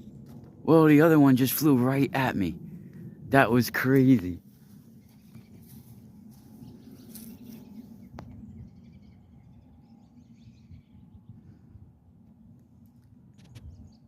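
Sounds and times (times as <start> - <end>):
low rumble: 0.0 - 13.9.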